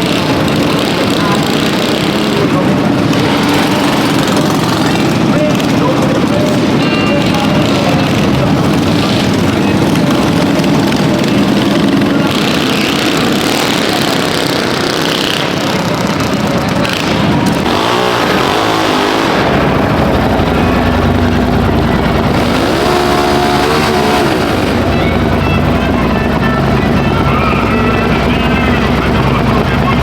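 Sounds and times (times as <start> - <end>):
dense background din: 0.0 - 30.0
engine revving: 0.0 - 30.0.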